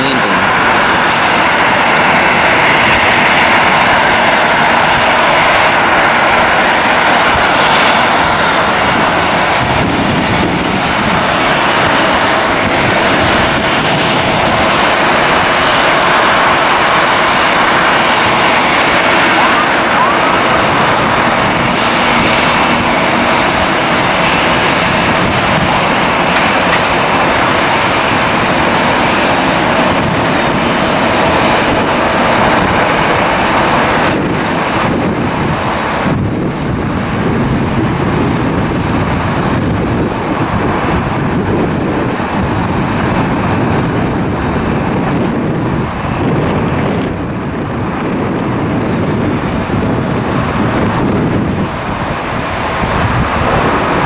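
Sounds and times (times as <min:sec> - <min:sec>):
jet engine noise: 0:00.0 - 0:54.0
wind on microphone: 0:00.0 - 0:54.0.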